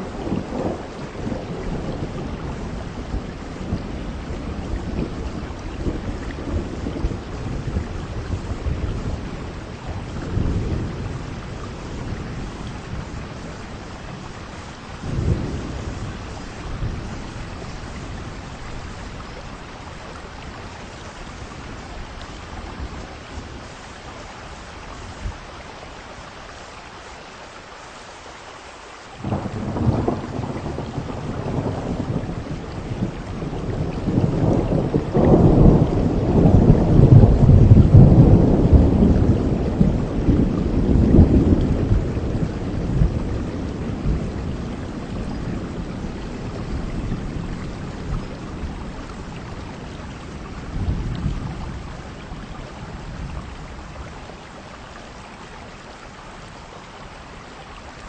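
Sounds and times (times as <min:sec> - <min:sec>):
thunder rumbling: 0:00.0 - 0:25.4, 0:29.2 - 0:54.8
heavy rain falling: 0:00.0 - 0:58.0.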